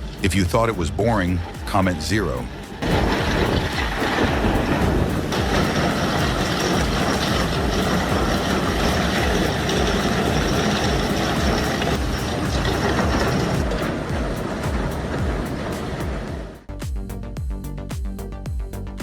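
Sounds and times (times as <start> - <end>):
diesel engine running under load: 0.0 - 16.7.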